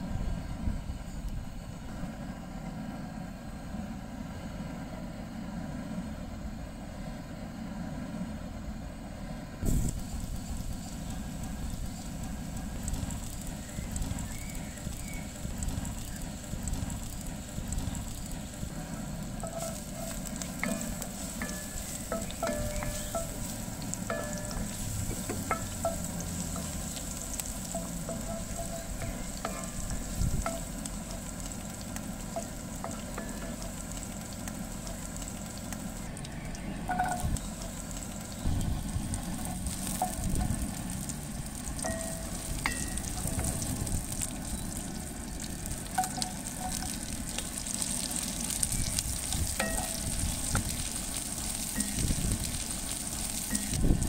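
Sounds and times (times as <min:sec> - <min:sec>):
oil sizzling in a pot: 0:09.6 - 0:54.0.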